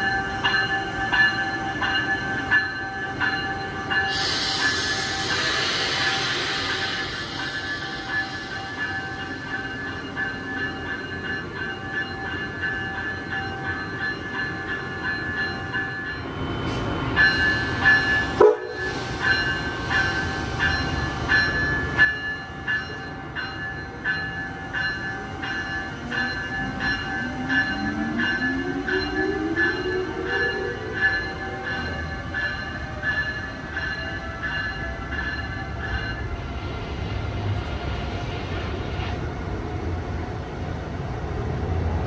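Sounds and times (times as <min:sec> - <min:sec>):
electric locomotive pulsing tone: 0:00.0 - 0:42.0
locomotive rising whine: 0:00.0 - 0:42.0.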